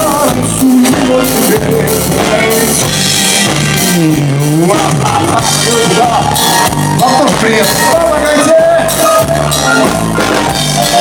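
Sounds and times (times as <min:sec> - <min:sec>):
bass: 0:00.0 - 0:11.0
drum kit: 0:00.0 - 0:11.0
lead melody line: 0:00.0 - 0:11.0.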